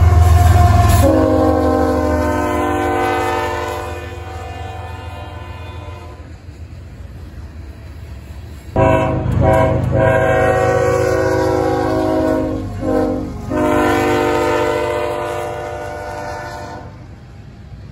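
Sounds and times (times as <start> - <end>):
locomotive air horn blowing: 0.0 - 6.4, 8.8 - 17.1
rumble of passing train: 0.0 - 17.9.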